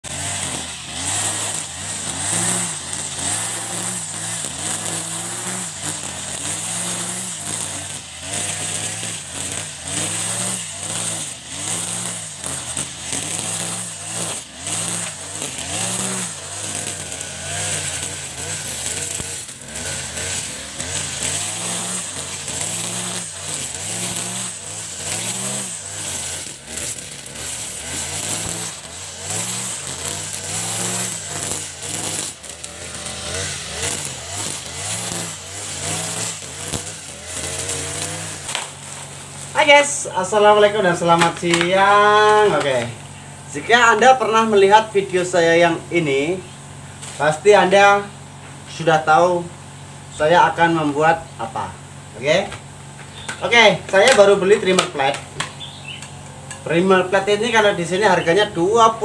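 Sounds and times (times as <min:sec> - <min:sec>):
brush cutter engine revving: 0:00.0 - 0:59.0.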